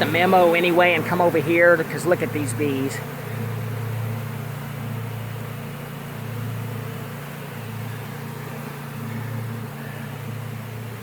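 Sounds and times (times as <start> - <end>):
distant lawnmower engine drone: 0.0 - 11.0
honeybees humming: 0.0 - 11.0.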